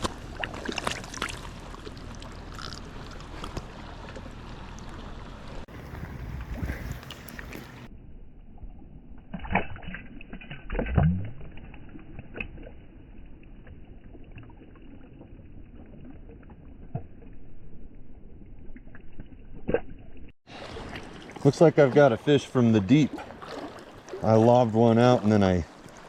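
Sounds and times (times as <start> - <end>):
slowed water splashing: 0.0 - 26.0.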